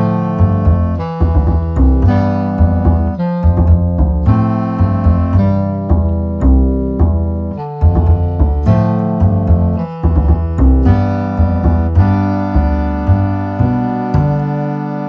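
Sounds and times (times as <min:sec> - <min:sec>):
piano chords: 0:00.0 - 0:15.0
steady bass line: 0:00.0 - 0:15.0.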